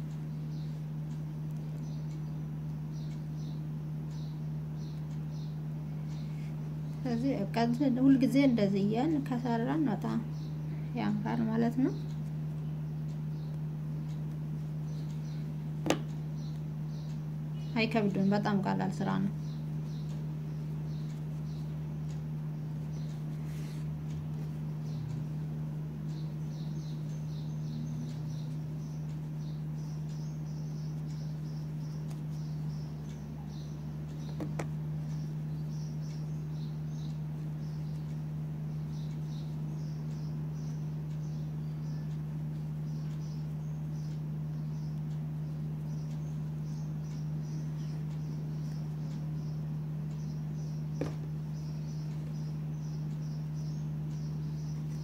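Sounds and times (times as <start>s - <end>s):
faint high-pitched chirping: 0.0s - 55.0s
steady low hum: 0.0s - 55.0s.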